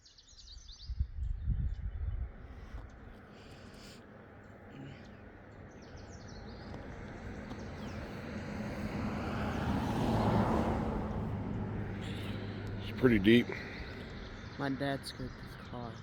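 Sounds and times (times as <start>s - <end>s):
car passing: 3.0s - 16.0s.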